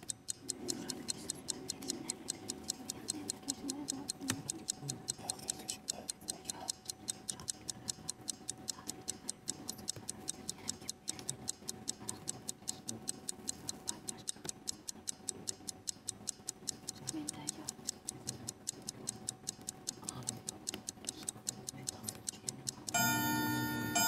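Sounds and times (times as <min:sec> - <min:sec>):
countdown clock ticking: 0:00.0 - 0:24.0.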